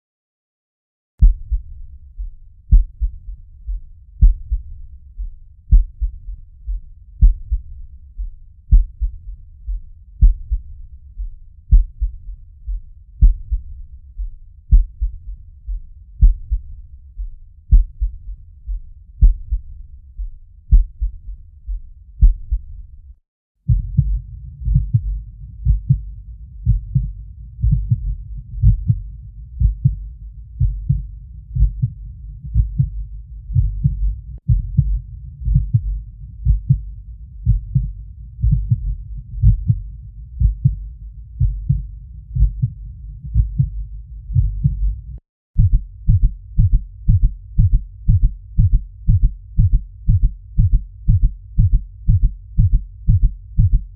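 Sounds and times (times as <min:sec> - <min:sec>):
heartbeat thumps: 0:01.2 - 0:22.9, 0:23.7 - 0:53.9.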